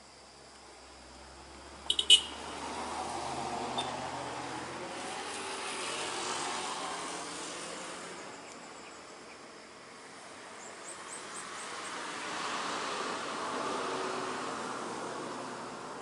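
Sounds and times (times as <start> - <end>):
passing vehicle tyres and engine: 0.4 - 16.0.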